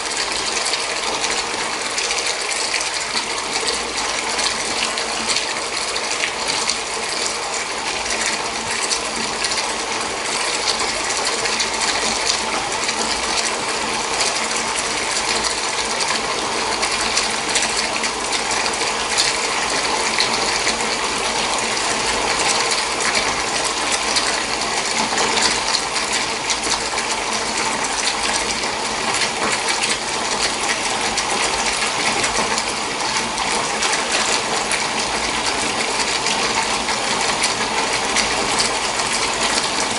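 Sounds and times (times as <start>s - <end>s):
water running into a bath: 0.0s - 39.9s.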